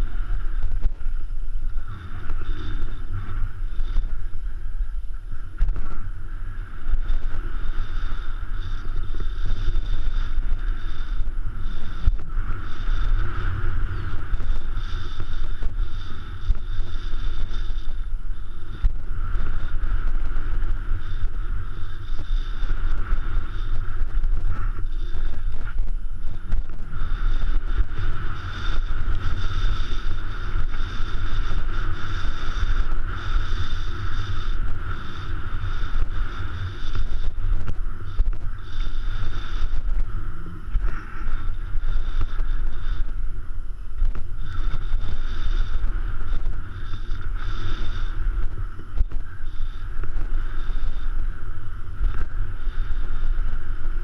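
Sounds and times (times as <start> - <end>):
bike tyre rumble on dirt trail: 0.0 - 54.0
wind buffeting microphone: 0.0 - 54.0.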